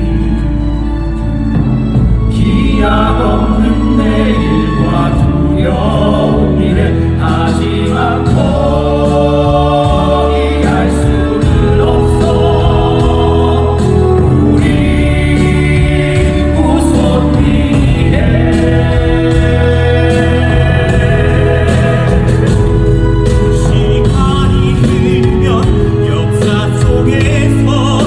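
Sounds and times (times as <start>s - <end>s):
choir singing sustained notes: 0.0s - 26.4s
low accompaniment: 0.0s - 28.0s.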